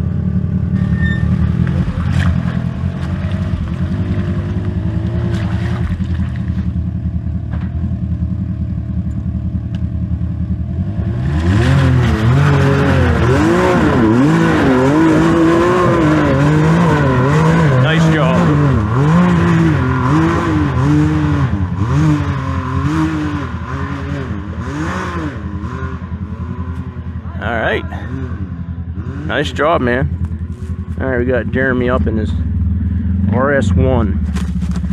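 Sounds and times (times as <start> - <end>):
off-road vehicle engine revving: 0.0 - 34.9.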